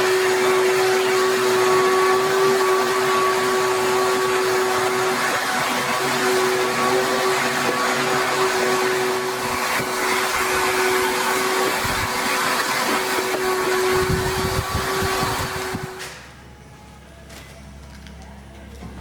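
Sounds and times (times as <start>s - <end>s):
vacuum cleaner running: 0.0s - 16.5s.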